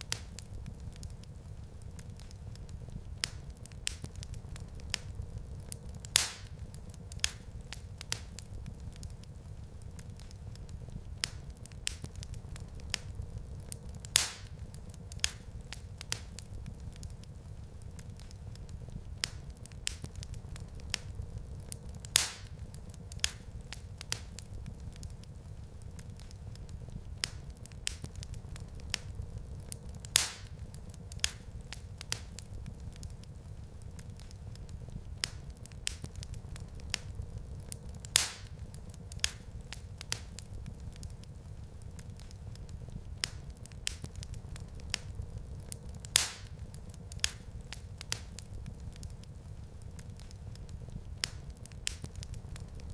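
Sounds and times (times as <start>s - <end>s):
loud fire pops: 0.0s - 52.9s
wood fire crackling: 0.0s - 52.9s.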